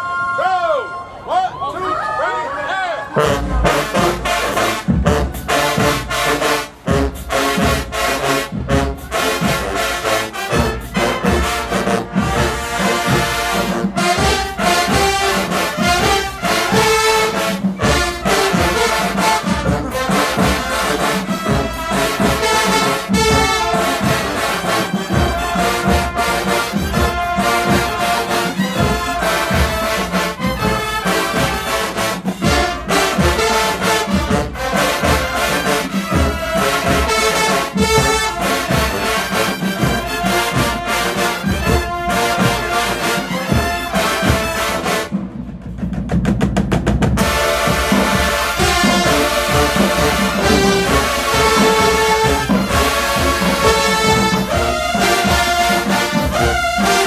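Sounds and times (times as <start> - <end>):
marching band brass playing: 3.1 - 57.0
steady drum beat: 3.2 - 57.0.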